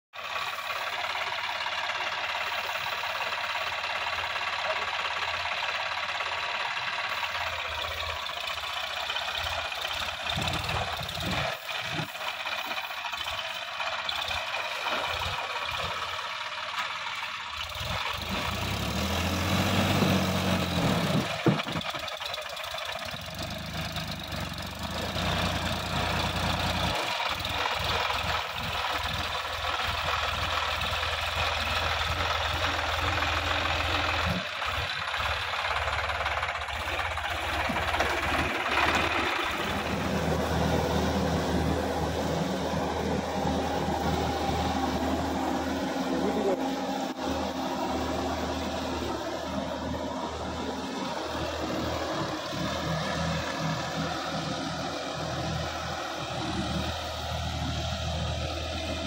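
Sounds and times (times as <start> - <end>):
tractor diesel engine running: 0.1 - 59.0.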